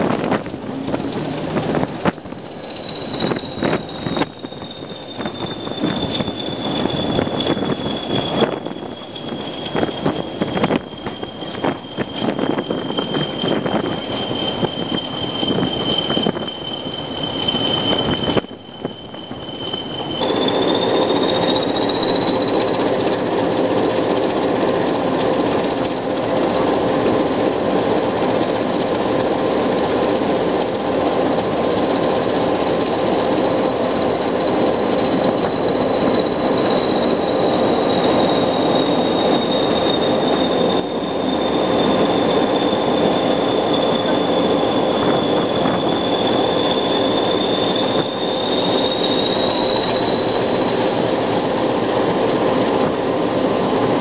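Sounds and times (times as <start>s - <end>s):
diesel locomotive engine: 0.0s - 54.0s
high thin whistle: 0.0s - 54.0s
wheel and rail noise: 0.0s - 54.0s.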